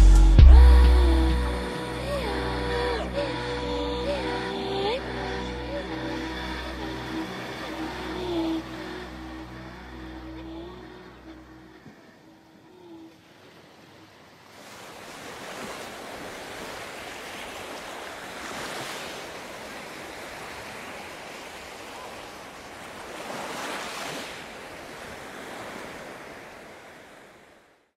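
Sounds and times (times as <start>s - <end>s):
waves washing onto beach: 1.0s - 27.9s.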